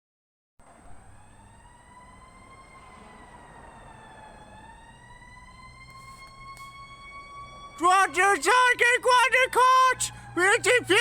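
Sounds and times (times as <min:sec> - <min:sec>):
fire engine siren wailing: 0:00.6 - 0:11.0.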